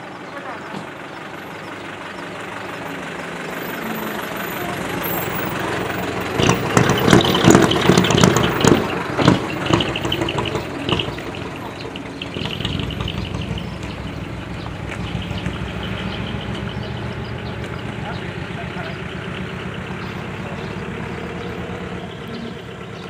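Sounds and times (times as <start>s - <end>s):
truck diesel engine popping exhaust: 0.0s - 23.0s.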